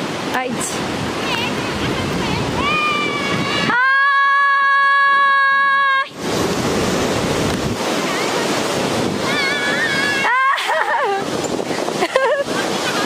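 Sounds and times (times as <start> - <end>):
mountain river rushing: 0.0 - 13.0
wind on microphone: 0.0 - 13.0.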